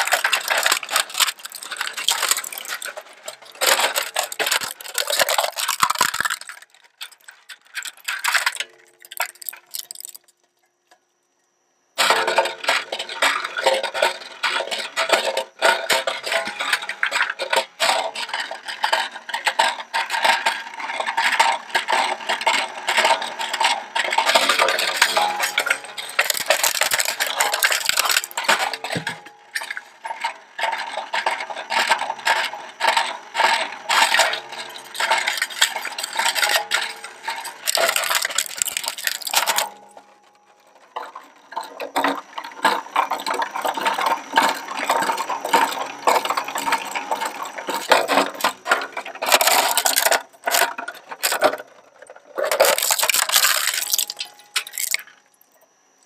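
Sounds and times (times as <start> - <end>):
shredder crunching plastic: 0.0 - 10.3, 12.0 - 55.5.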